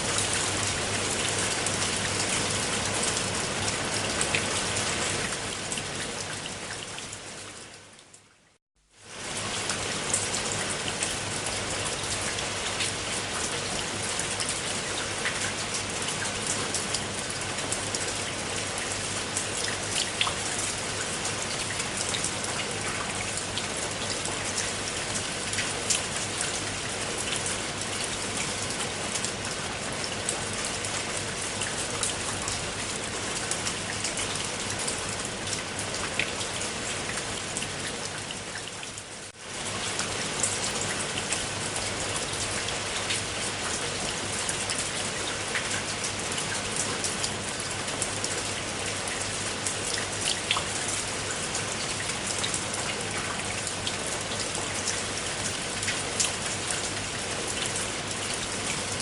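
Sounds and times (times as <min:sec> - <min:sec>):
rain pattering: 0:00.0 - 0:07.7, 0:08.9 - 0:59.0.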